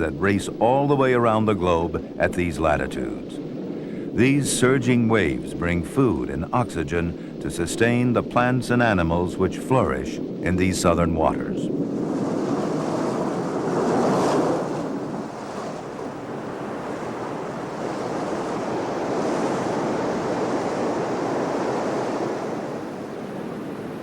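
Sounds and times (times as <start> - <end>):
waves breaking: 0.0 - 24.0.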